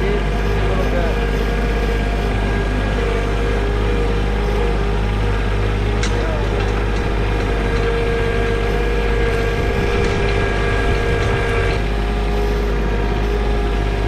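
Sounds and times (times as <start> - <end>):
diesel tractor engine running: 0.0 - 14.0
steady whine: 0.0 - 14.0.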